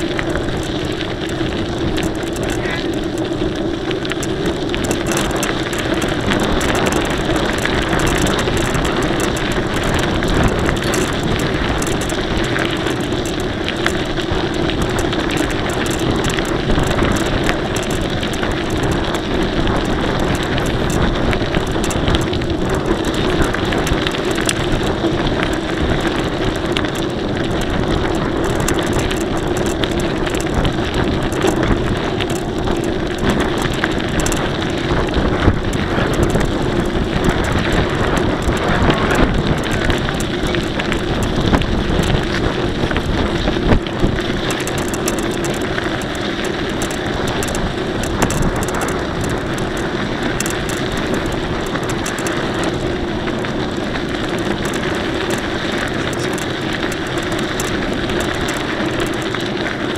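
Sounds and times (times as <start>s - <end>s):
bike tyre road noise: 0.0s - 59.9s
constant hum: 0.0s - 59.9s
wind on microphone: 0.0s - 59.9s.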